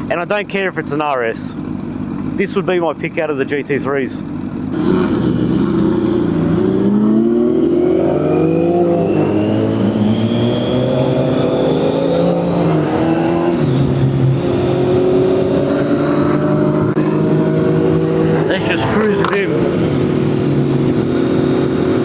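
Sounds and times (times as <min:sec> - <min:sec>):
motorcycle engine pulling steadily: 0:00.0 - 0:22.0.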